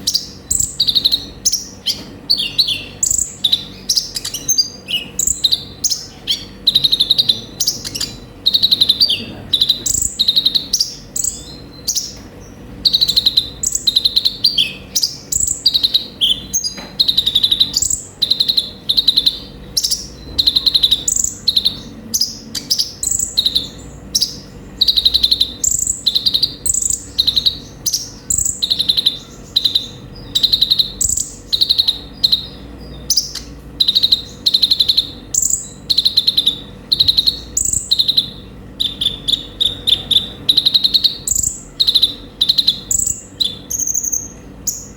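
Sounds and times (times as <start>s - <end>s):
faint steady hum: 0.0s - 44.9s
sunbird singing: 0.0s - 44.9s.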